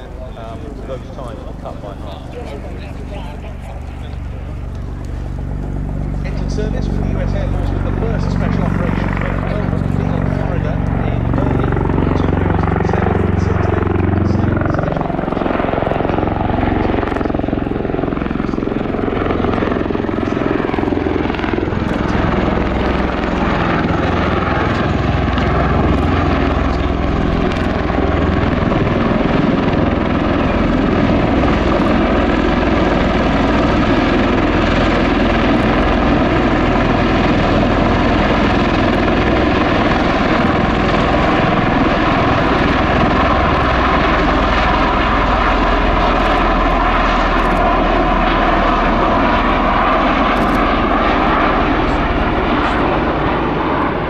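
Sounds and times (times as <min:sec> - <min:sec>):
tiltrotor aircraft drone and whine: 0:00.0 - 0:54.0.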